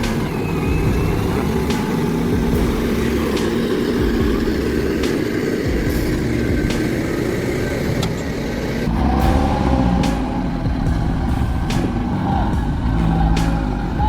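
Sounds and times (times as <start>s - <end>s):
diesel engine running hard: 0.0s - 14.0s.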